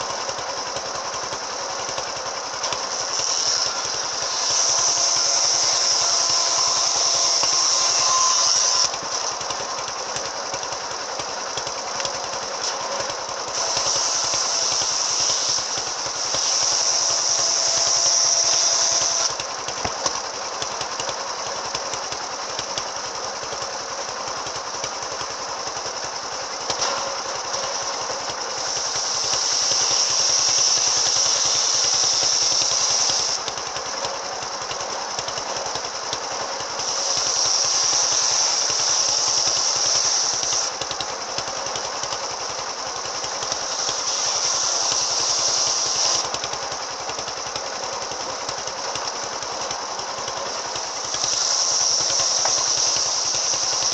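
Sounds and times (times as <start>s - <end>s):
brush cutter engine revving: 0.0s - 53.9s.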